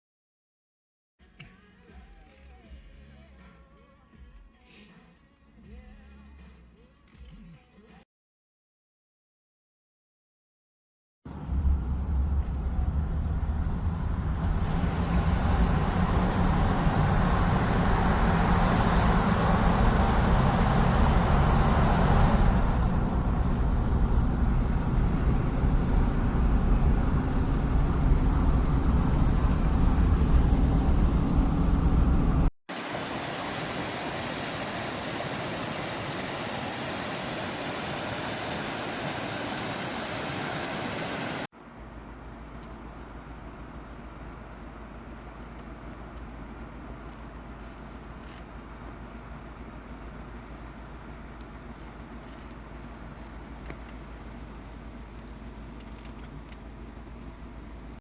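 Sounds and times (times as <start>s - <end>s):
car road and engine rumble: 11.3s - 58.0s.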